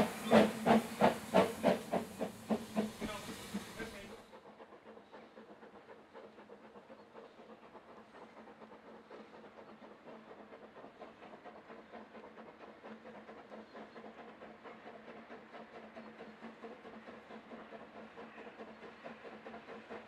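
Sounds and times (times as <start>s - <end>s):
distant steam locomotive exhaust beats: 0.0s - 20.0s.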